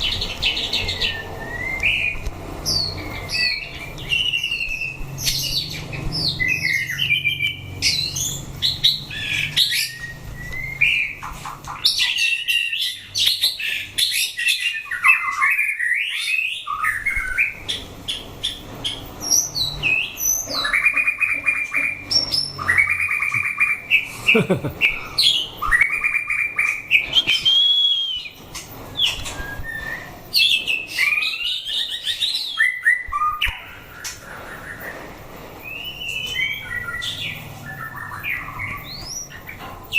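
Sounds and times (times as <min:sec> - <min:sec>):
bird singing whistles and trills: 0:00.0 - 0:39.6.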